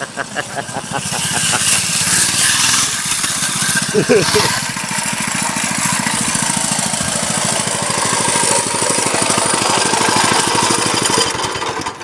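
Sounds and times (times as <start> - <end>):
small engine running at high revs: 0.0 - 12.0.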